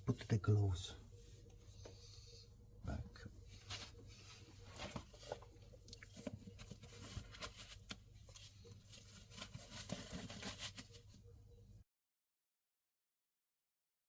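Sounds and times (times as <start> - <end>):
low steady hum: 0.0 - 11.8.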